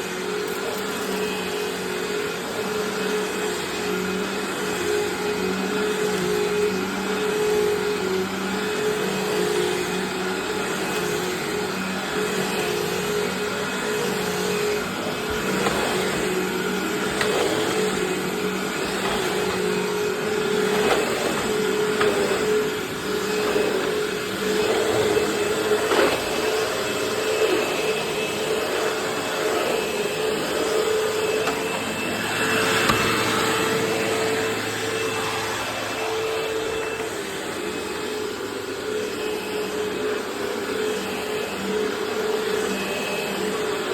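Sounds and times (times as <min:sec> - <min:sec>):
vacuum cleaner motor humming: 0:00.0 - 0:43.9.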